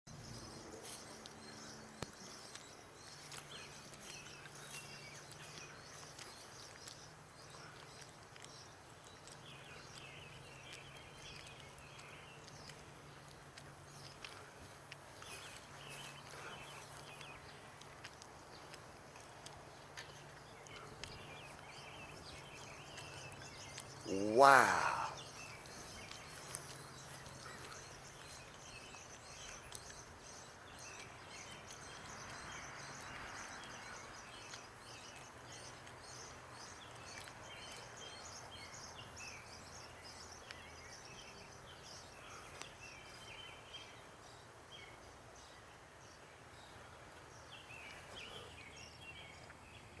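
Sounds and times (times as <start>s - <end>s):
small birds chirping: 0.1s - 50.0s.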